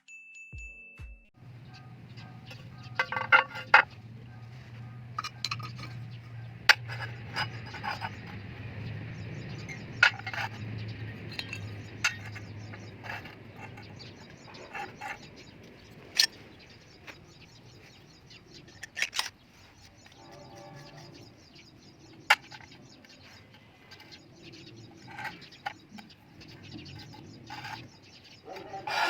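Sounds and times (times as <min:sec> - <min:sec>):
faint bird chirps: 0:01.4 - 0:29.0.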